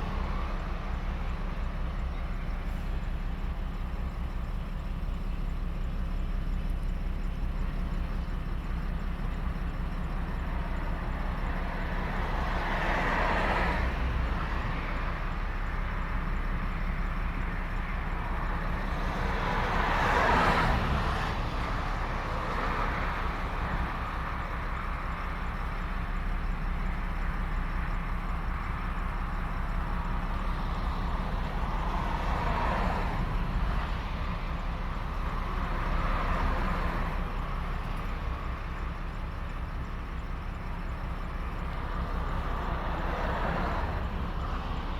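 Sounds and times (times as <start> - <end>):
vehicles passing: 0.0 - 44.9.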